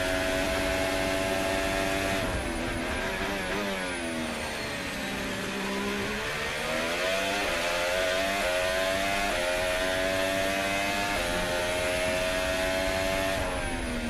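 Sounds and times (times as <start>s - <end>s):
racing car engine accelerating: 0.0s - 14.0s.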